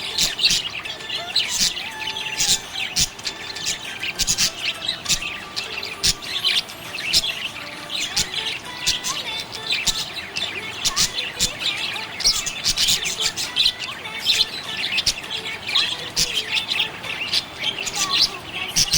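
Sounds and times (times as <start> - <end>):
budgerigars chirping and chattering: 0.0 - 18.9
sharp bird squawks: 0.0 - 18.9.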